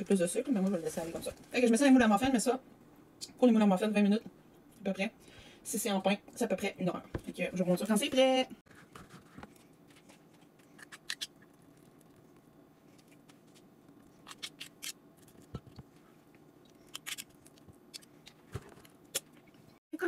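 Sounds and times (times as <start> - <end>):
low steady background hum: 0.0 - 20.0.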